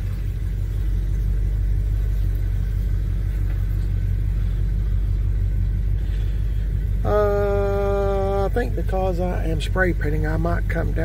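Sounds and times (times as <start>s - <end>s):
pickup engine running at low speed: 0.0s - 11.0s.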